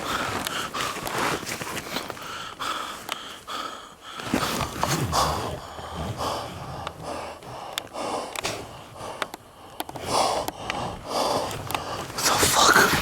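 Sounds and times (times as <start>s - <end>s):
man breathing heavily: 0.0s - 13.0s.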